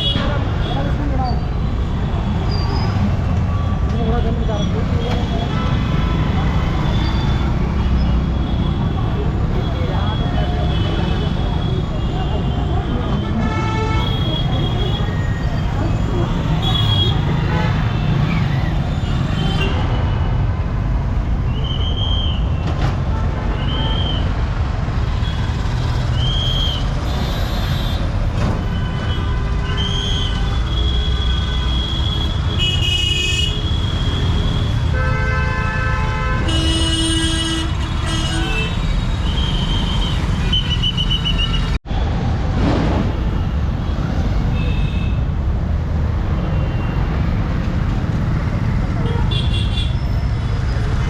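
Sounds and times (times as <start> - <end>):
traffic rumble: 0.0 - 51.0.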